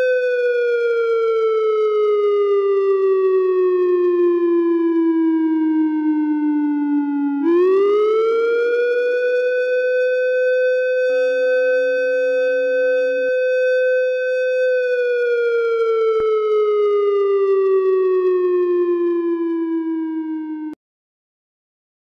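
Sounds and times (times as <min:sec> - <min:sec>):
fainter second siren tone: 0:00.0 - 0:20.8
wailing siren: 0:00.0 - 0:20.8.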